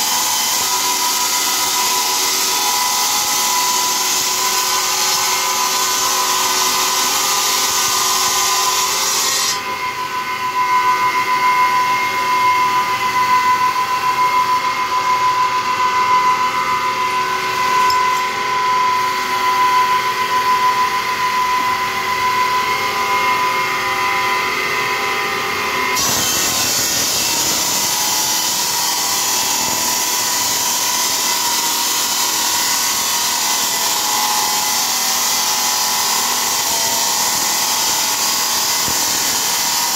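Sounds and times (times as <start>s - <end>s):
saw cutting tile: 0.0s - 39.9s.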